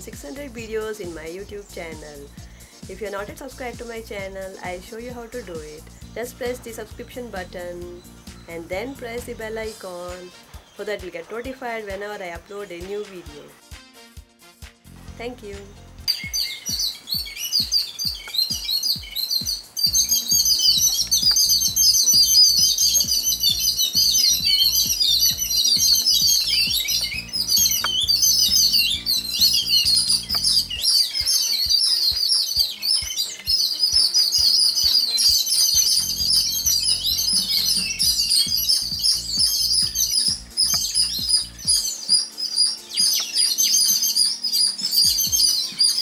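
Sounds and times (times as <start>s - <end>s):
small birds chirping: 0.0s - 13.6s, 15.1s - 46.0s
background music with low beat: 0.0s - 46.0s.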